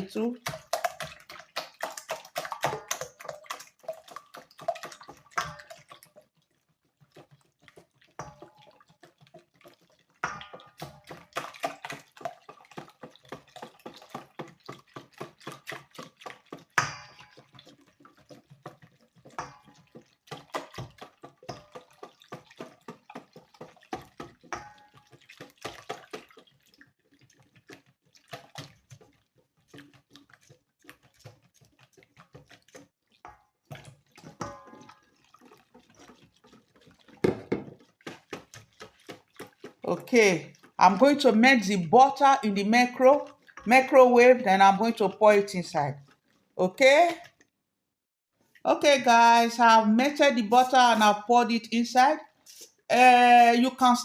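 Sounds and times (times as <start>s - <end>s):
milk pouring: 0.0s - 47.5s
whisk clicking and sloshing: 0.0s - 47.6s, 48.3s - 54.0s.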